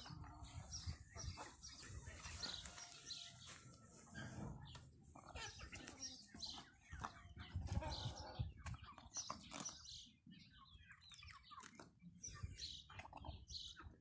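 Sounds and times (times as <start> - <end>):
chickens chirping and clucking: 0.0 - 14.0.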